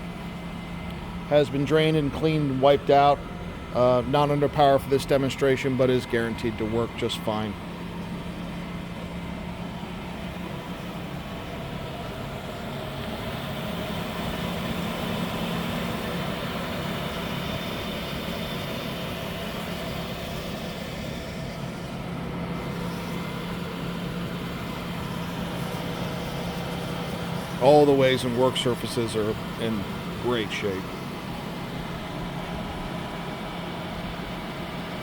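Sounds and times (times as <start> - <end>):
grinder machine hum: 0.0 - 35.0.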